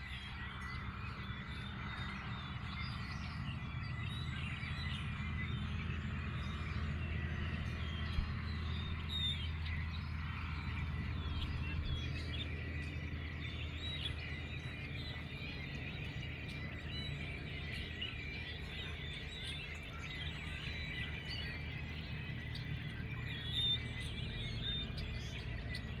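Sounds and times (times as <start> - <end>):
birds chirping and singing: 0.0 - 26.0.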